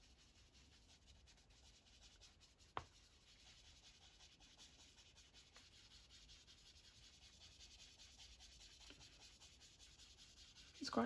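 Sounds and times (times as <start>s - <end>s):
sponge rubbing on paper: 0.0s - 11.0s.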